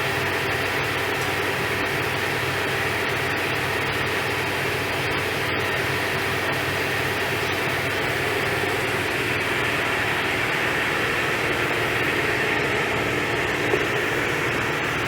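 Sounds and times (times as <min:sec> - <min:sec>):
pressure washer motor hum: 0:00.0 - 0:15.0.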